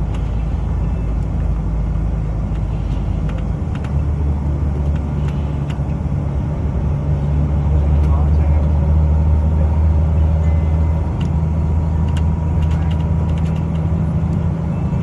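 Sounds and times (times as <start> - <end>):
car driving low rumble: 0.0 - 15.0.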